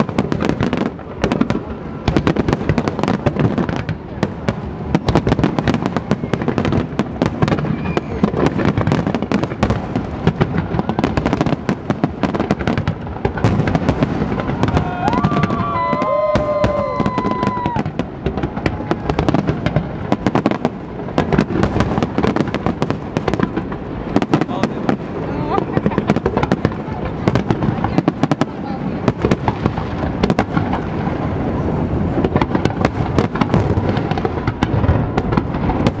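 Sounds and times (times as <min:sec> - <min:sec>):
fireworks bursts and crackling: 0:00.0 - 0:36.0.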